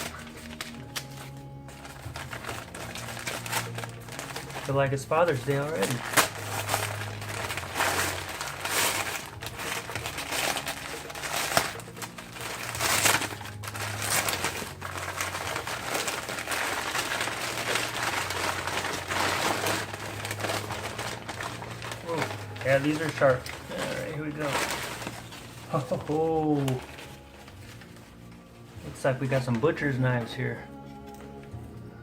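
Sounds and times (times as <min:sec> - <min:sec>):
wrapping crinkling and rustling: 0:00.0 - 0:31.7.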